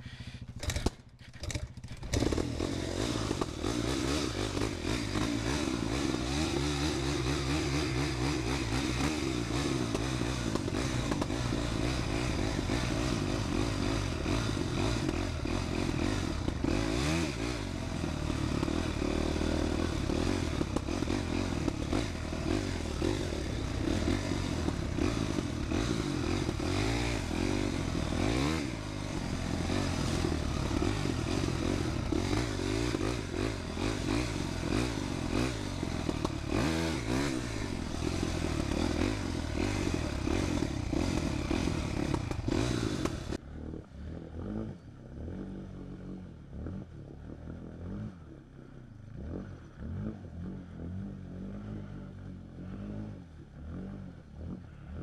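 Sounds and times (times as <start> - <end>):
dirt bike engine revving: 0.0 - 48.2, 49.0 - 55.0.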